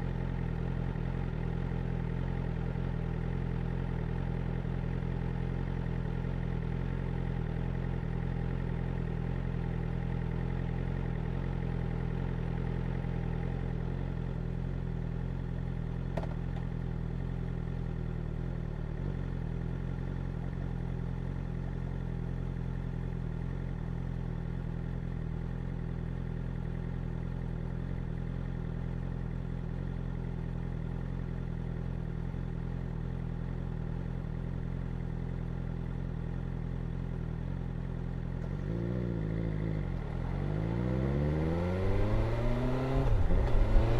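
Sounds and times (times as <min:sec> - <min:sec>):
motorcycle engine running steadily: 0:00.0 - 0:43.9.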